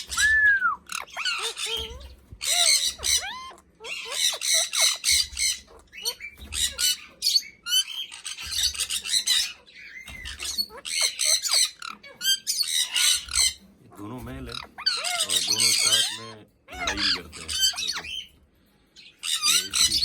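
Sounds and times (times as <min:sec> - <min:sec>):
parrots squawking: 0:00.0 - 0:18.4, 0:19.0 - 0:20.0.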